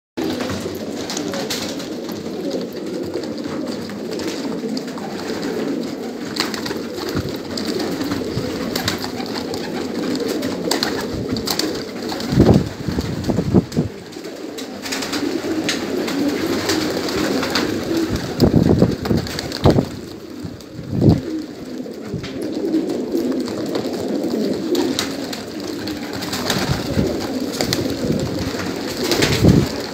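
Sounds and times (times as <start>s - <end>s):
pigeons cooing: 0.2s - 29.9s.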